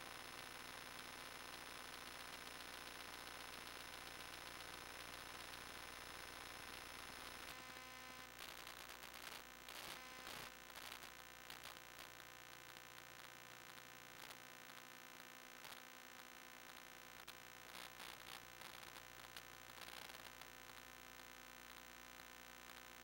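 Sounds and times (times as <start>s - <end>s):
faint electrical hum and static: 0.0s - 23.0s.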